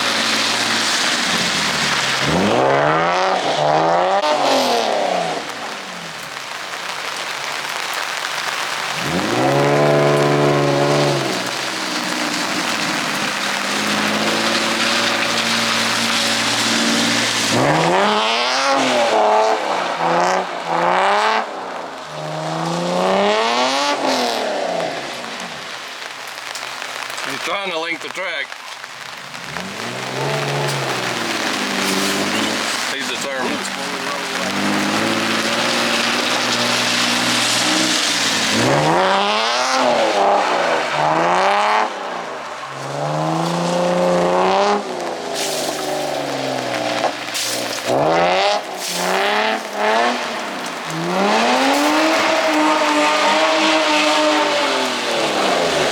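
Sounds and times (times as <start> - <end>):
car engine revving: 0.0 - 25.8, 28.9 - 55.9
rain and wet tyres hissing: 0.0 - 55.9.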